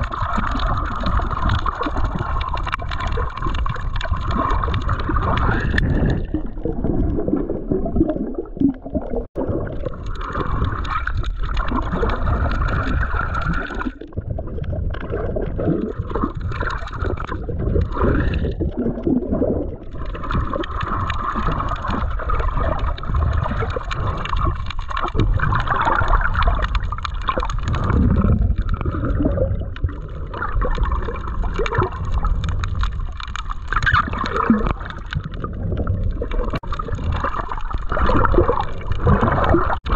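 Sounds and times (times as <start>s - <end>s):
underwater gurgling and sloshing: 0.0s - 39.9s.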